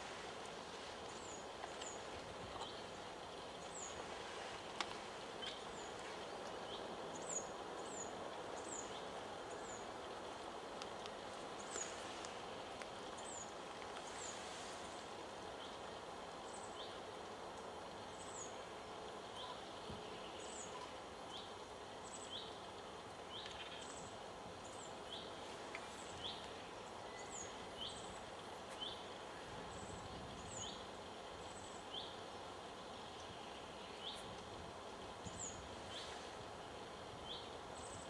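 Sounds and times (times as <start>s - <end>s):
outdoor hiss: 0.0s - 38.0s.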